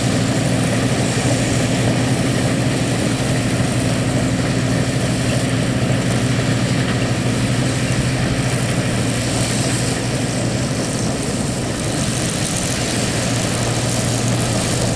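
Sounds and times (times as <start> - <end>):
combine harvester engine drone: 0.0 - 14.9
threshing machinery running: 0.0 - 14.9.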